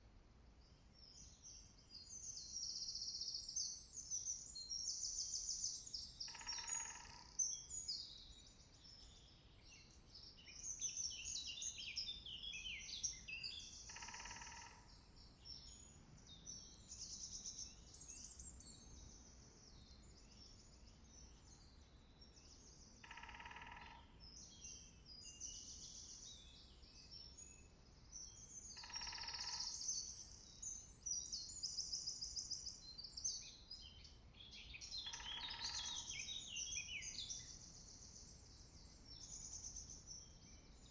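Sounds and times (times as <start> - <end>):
songbirds singing: 0.8 - 40.9.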